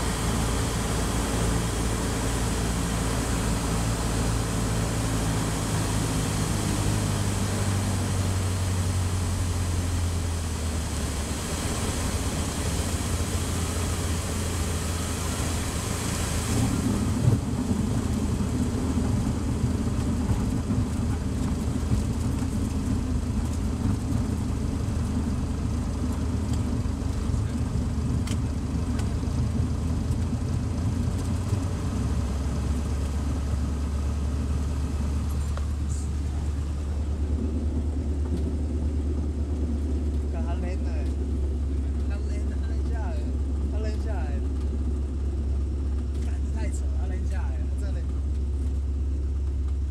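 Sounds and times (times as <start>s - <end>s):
light aircraft engine running: 0.0s - 49.9s.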